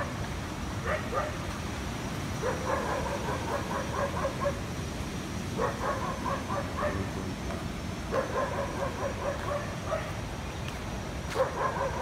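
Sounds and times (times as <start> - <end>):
waterfall stream rushing: 0.0 - 12.0.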